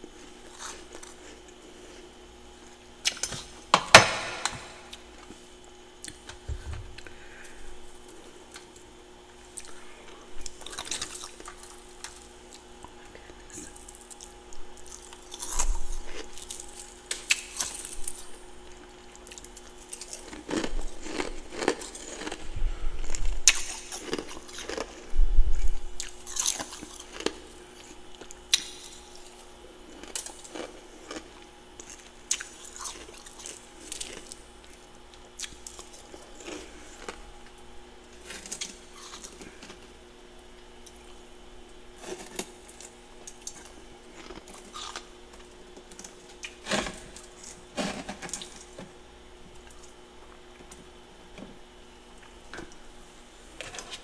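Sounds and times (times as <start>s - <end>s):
frost crunched and chewed: 0.0s - 6.4s, 8.0s - 51.4s
faint steady hum: 0.0s - 54.0s.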